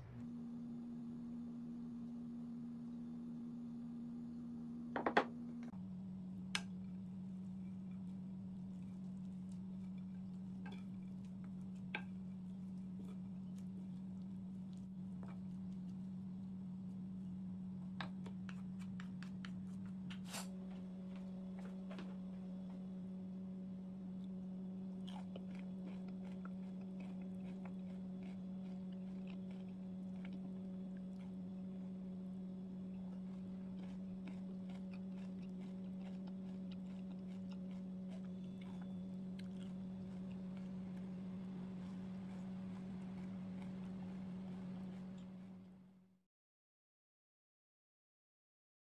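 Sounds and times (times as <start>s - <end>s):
steady low hum: 0.0s - 46.1s.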